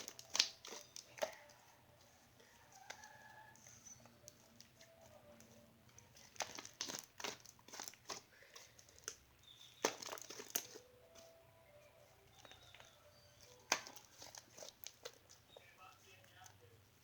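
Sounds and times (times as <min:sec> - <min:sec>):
slime being kneaded crackling: 0:00.0 - 0:17.0.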